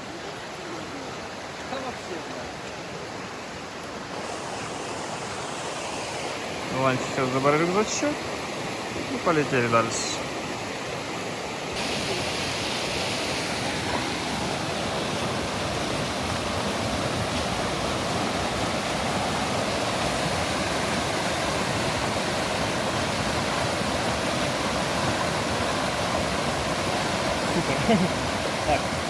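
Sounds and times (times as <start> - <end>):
river rushing: 0.0 - 29.0.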